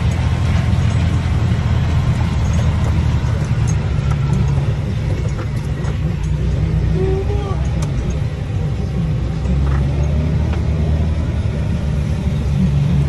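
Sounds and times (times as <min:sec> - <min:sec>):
harvester engine rumble: 0:00.0 - 0:13.0.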